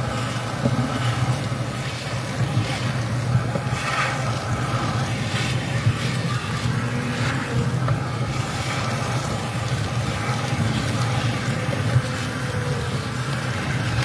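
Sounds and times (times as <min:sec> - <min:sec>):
vacuum motor humming: 0:00.0 - 0:14.0.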